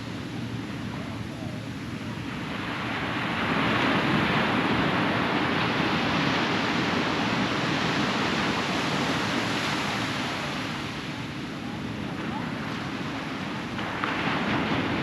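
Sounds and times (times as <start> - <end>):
ocean wave breaking on shore: 0.0 - 15.0.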